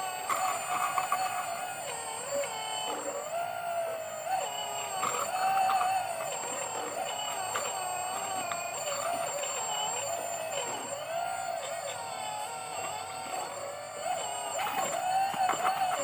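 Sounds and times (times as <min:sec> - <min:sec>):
high electronic whine: 0:00.0 - 0:16.0
hydraulic pump motor whining: 0:00.0 - 0:16.0.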